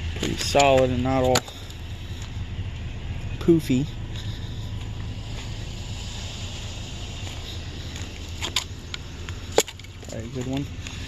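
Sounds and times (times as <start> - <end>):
low rumble with hiss: 0.0 - 11.0.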